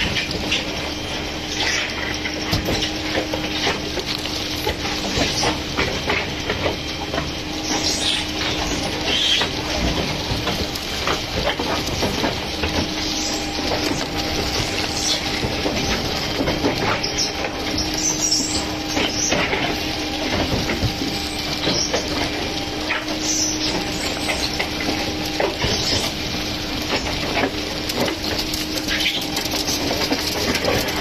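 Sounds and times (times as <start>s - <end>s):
concrete pump humming: 0.0s - 31.0s.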